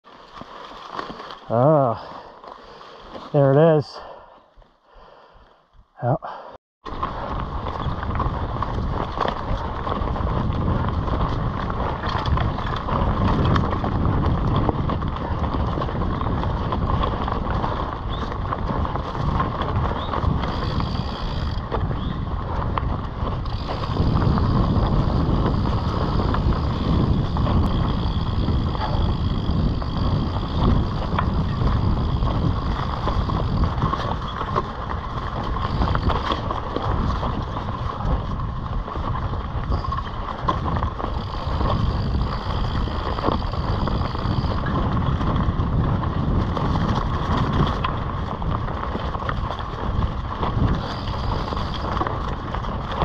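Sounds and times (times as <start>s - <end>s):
bike tyre rumble and rattling: 0.0s - 5.7s, 6.3s - 53.0s
wind buffeting microphone: 6.8s - 53.0s.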